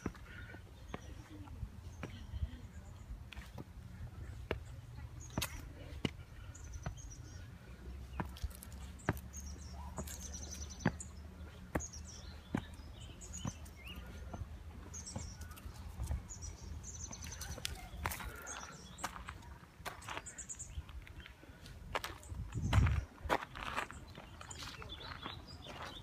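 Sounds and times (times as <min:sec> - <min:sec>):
footsteps on gravel: 0:00.0 - 0:26.0
small birds chirping: 0:00.0 - 0:26.0.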